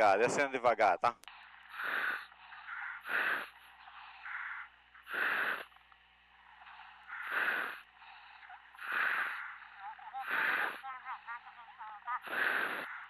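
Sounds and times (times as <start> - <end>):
diver breathing through helmet: 1.3 - 11.2, 12.2 - 13.0.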